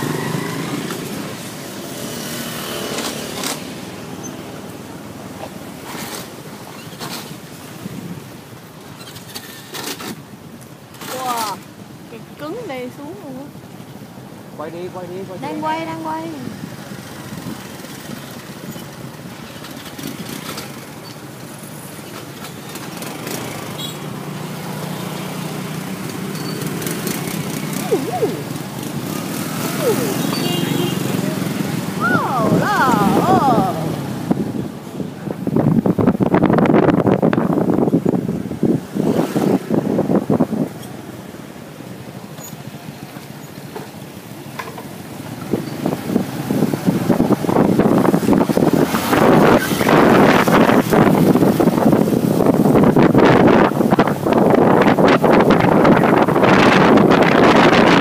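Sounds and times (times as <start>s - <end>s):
motor scooter engines running: 0.0s - 58.0s
road noise: 0.0s - 58.0s.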